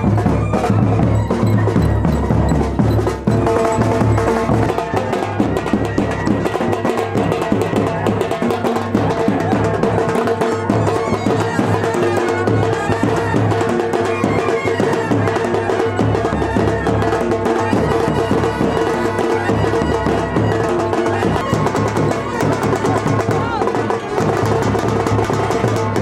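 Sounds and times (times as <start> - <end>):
steady drumming: 0.0 - 26.0
traditional-style music: 0.0 - 26.0.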